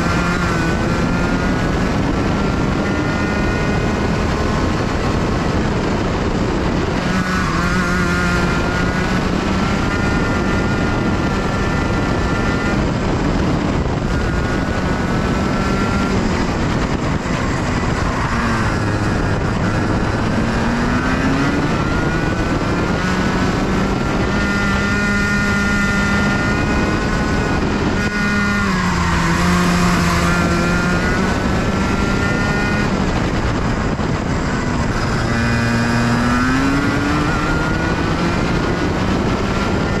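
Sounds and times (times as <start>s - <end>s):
kart engine at high revs: 0.0s - 40.0s.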